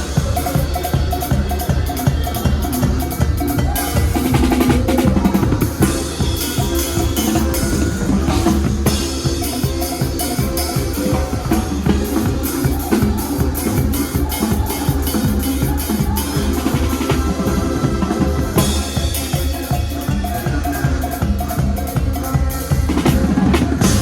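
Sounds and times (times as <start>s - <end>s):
bass drum and snare beat: 0.0s - 24.0s
sustained bass line: 0.0s - 24.0s.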